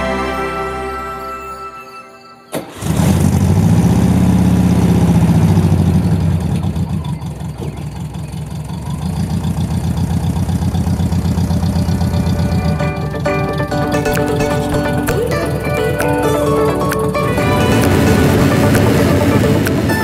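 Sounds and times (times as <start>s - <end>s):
engine starting and running: 2.5s - 20.0s.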